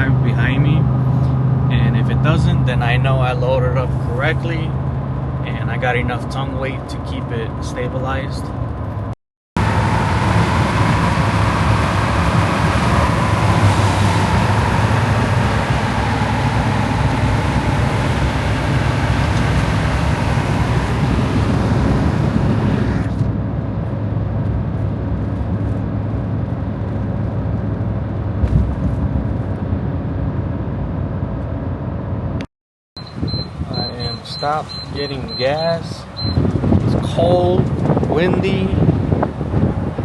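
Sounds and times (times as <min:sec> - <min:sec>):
truck road and engine noise: 0:00.0 - 0:40.0.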